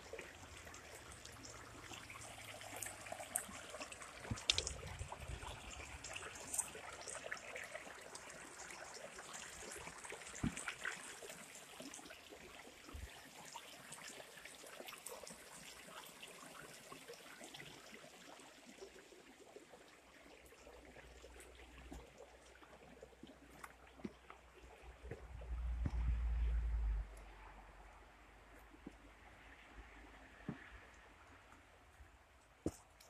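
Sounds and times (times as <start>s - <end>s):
stream trickling: 0.0s - 33.0s.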